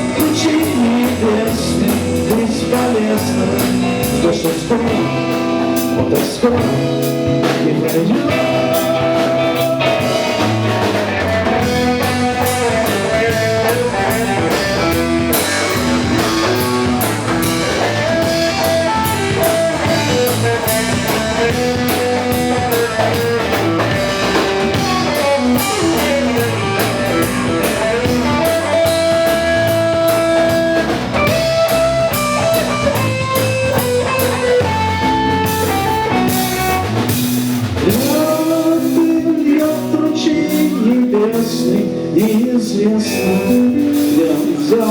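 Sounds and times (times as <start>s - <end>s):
bass guitar: 0.0s - 44.9s
lead guitar: 0.0s - 44.9s
steady drum beat: 0.0s - 44.9s.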